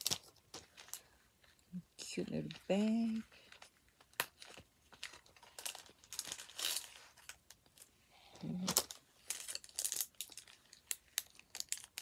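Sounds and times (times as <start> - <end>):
paper and plastic crinkling: 0.0 - 12.0.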